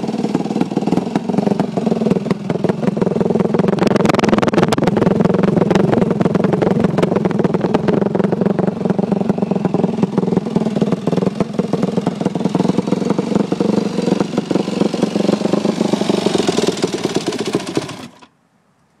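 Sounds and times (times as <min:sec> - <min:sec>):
dirt bike engine exhaust: 0:00.0 - 0:18.3.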